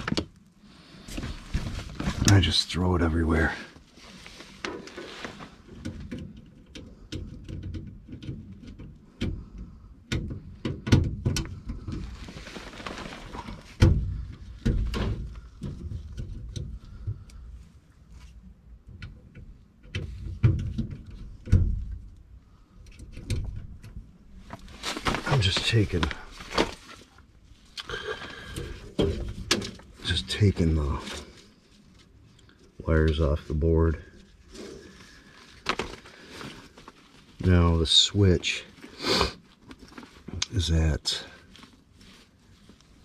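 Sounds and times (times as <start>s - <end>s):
rustle of movement: 0.0s - 9.9s, 11.6s - 18.7s, 22.4s - 43.0s.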